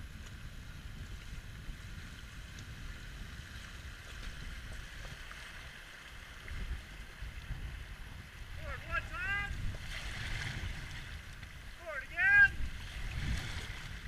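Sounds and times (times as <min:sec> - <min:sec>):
wind rumbling on microphone: 0:00.0 - 0:14.0
river water rushing: 0:02.0 - 0:14.0.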